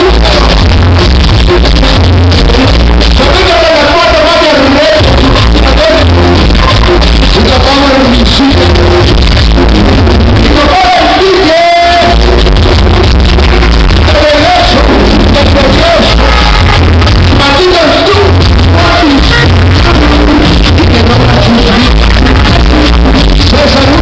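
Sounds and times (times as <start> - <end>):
loud distorted dance music: 0.0 - 24.0.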